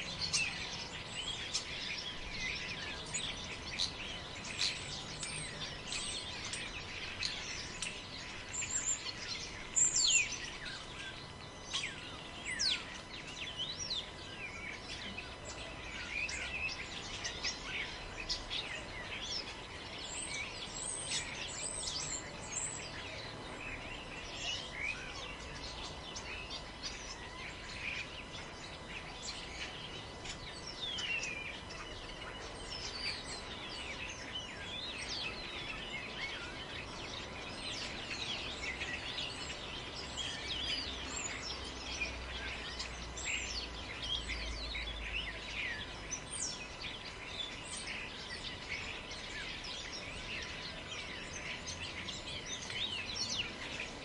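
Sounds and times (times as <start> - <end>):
birds chirping and calling: 0.0 - 54.0.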